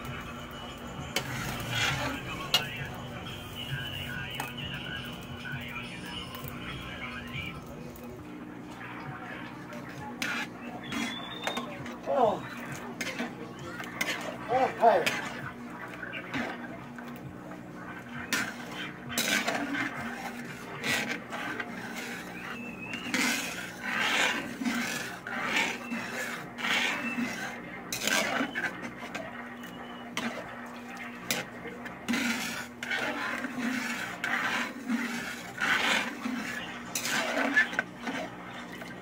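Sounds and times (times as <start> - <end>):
metal spoon scraping a wok: 0.1 - 7.0, 9.3 - 39.0.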